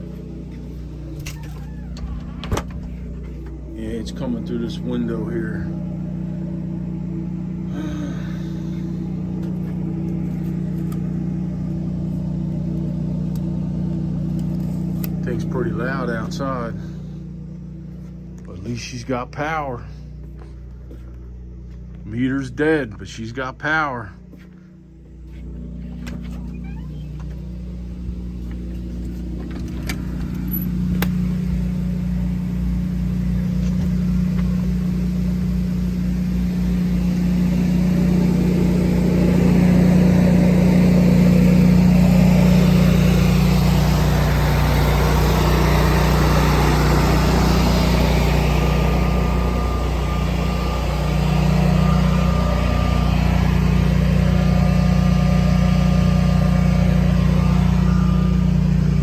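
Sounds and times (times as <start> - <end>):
standby generator humming: 0.0 - 59.0.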